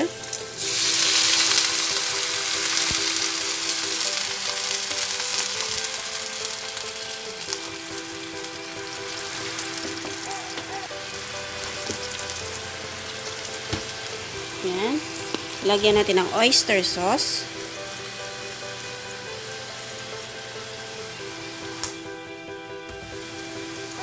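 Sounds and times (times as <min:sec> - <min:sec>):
water sizzling and bubbling in pan: 0:00.0 - 0:24.0.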